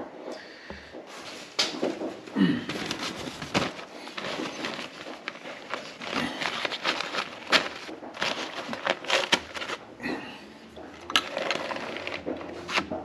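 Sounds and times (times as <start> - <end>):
paper towels rustling: 1.0 - 13.0.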